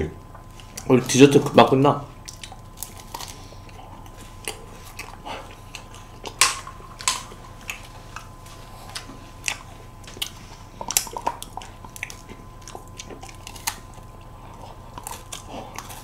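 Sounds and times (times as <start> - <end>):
eating ice cream cone: 0.5 - 16.0.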